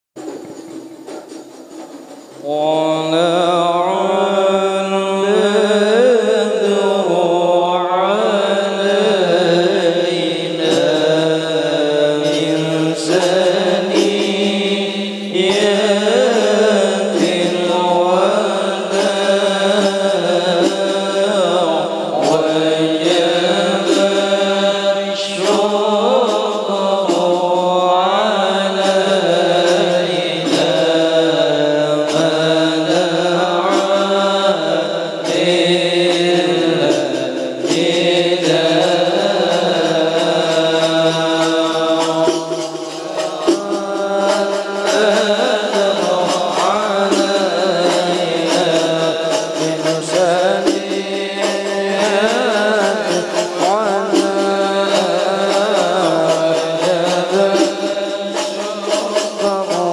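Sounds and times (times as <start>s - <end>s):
man chanting devotional song: 2.2s - 59.9s.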